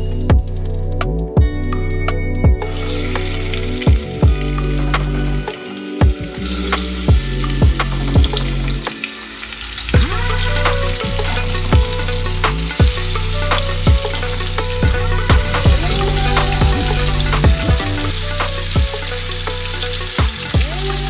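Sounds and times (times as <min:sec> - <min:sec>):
fish sizzling in oil: 0:02.6 - 0:21.0.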